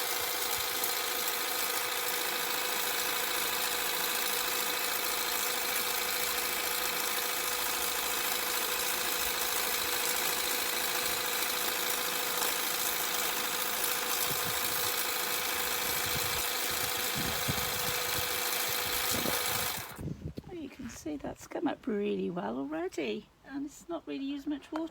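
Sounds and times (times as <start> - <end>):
pressure washer motor whine: 0.0 - 20.0.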